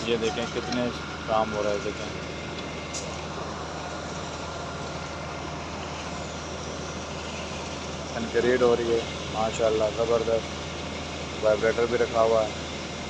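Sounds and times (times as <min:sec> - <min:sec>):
heavy diesel machinery humming: 0:00.0 - 0:13.0.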